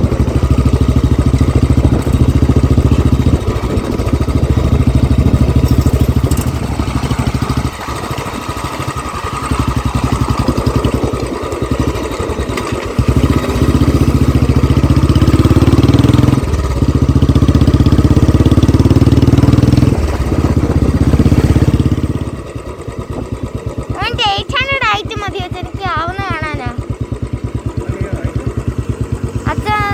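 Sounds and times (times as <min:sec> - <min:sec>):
motorcycle engine thumping exhaust: 0:00.0 - 0:29.9.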